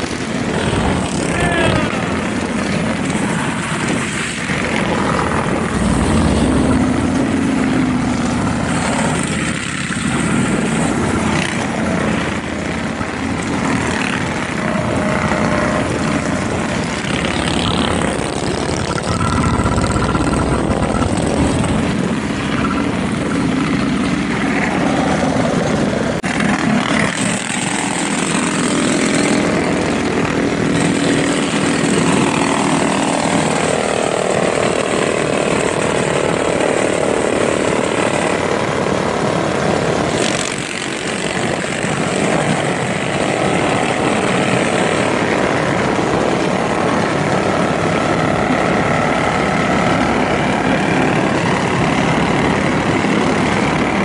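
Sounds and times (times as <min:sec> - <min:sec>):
mini bike engines revving: 0:00.0 - 0:54.0.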